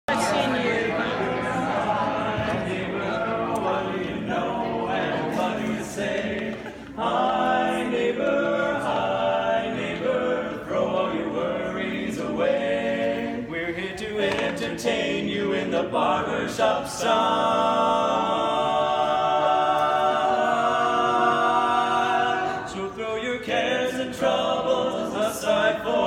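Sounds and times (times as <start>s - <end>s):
male quartet singing a cappella: 0.1s - 26.0s.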